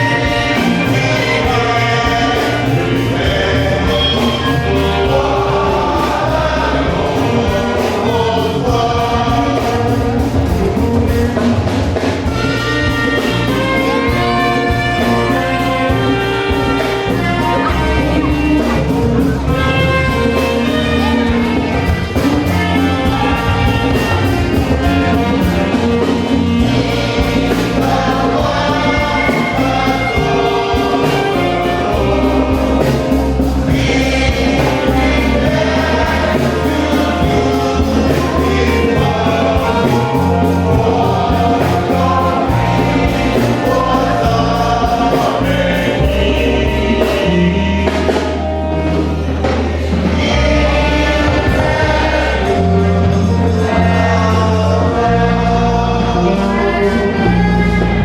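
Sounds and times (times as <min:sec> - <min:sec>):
band with steady beat and bass: 0:00.0 - 0:58.0
choir singing gospel: 0:00.0 - 0:58.0.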